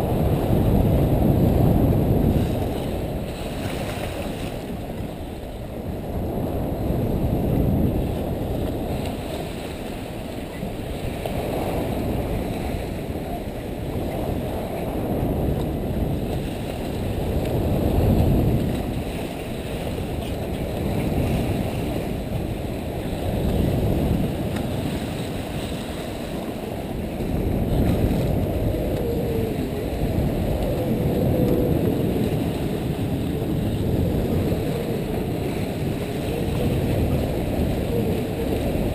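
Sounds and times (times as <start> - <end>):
rushing wind: 0.0 - 38.9
water rushing at bow: 0.0 - 38.9.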